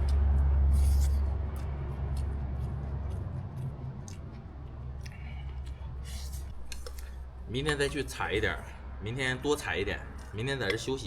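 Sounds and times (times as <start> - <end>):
person chewing food: 0.0 - 8.8, 10.0 - 11.0
steady low rumble: 0.0 - 11.0.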